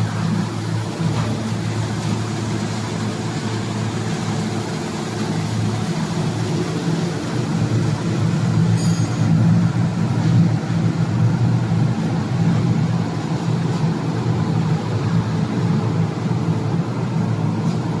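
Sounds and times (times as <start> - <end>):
hammer mill droning: 0.0 - 18.0.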